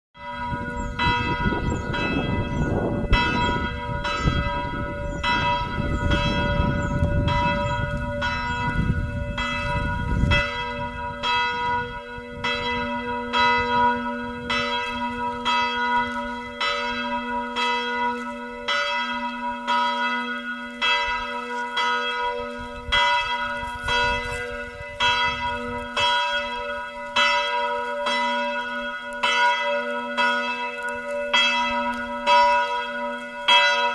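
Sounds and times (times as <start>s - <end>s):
church bells ringing: 0.2s - 33.9s.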